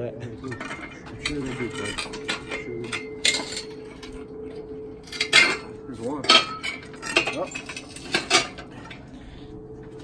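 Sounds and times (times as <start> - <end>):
tools clanking on metal: 0.3 - 9.1.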